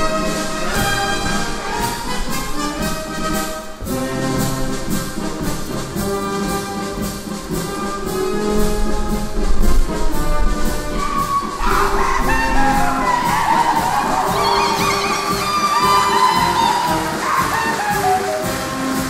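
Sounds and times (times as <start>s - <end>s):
brass band playing dance music: 0.0s - 19.0s.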